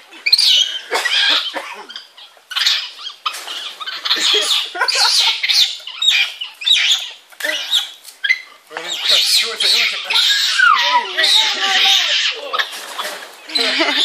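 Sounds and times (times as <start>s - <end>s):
monkeys squawking: 0.1s - 14.0s.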